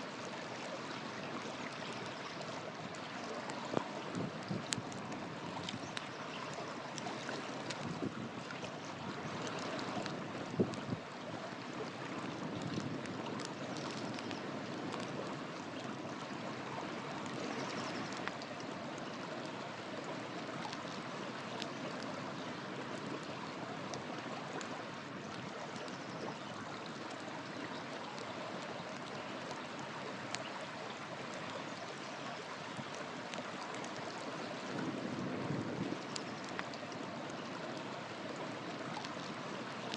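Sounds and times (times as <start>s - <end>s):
river water flowing: 0.0s - 39.9s
campfire crackling and popping: 2.0s - 39.9s.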